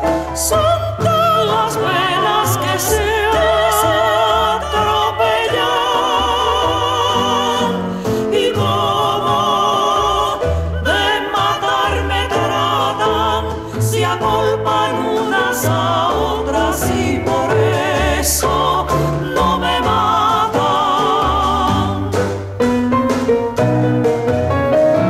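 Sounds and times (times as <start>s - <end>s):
low instrumental accompaniment: 0.0s - 25.0s
woman singing with vibrato: 0.4s - 22.3s.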